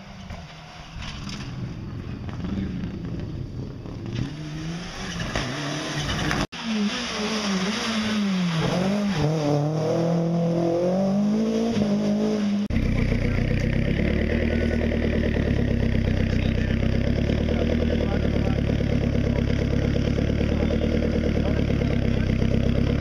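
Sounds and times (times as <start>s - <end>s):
distant car engine running: 0.0s - 23.0s
car engine revving hard: 4.1s - 23.0s.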